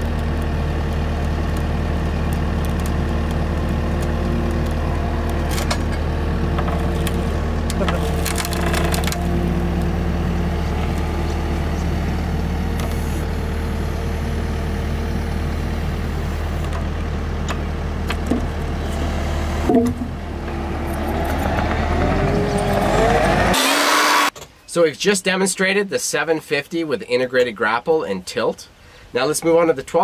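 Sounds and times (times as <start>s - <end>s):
loader engine running: 0.0s - 24.3s.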